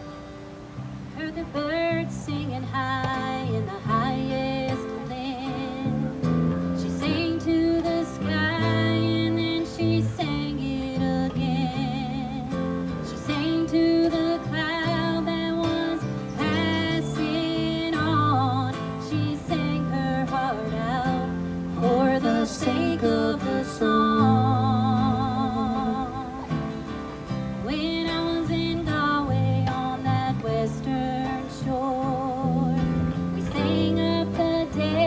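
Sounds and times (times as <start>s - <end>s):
strummed acoustic guitar: 0.0s - 35.0s
singer with vibrato: 1.1s - 27.0s, 27.6s - 35.0s.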